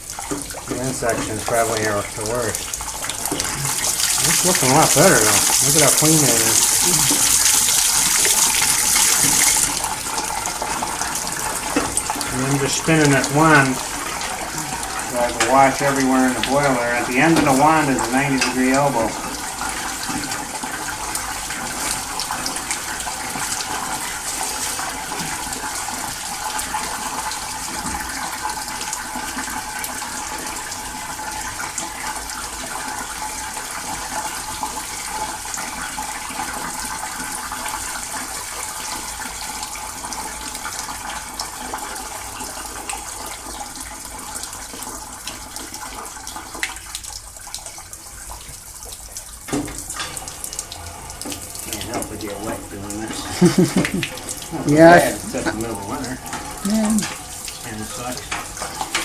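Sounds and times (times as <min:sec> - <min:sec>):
water jetting and splashing: 0:00.0 - 0:59.0.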